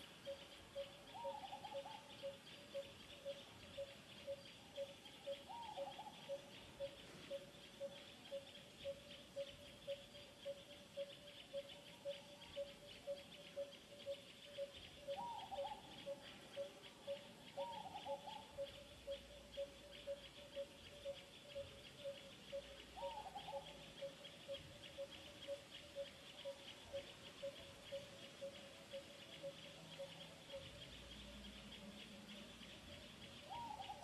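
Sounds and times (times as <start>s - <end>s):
insects chirring: 0.0s - 34.0s
short wavering calls: 0.0s - 34.0s.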